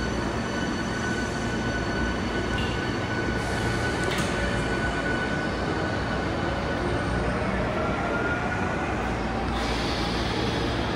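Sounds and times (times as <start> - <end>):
train rumble: 0.0 - 10.9.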